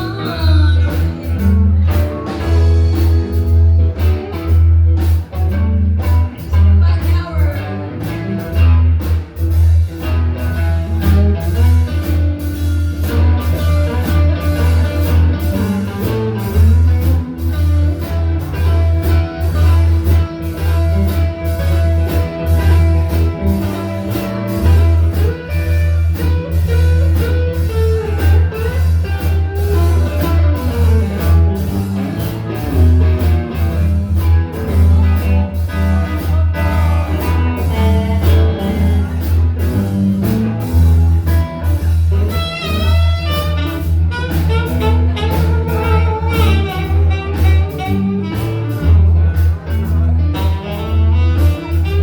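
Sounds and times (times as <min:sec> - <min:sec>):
bass and drums steady beat: 0:00.0 - 0:52.0
electric guitar solo: 0:00.0 - 0:52.0.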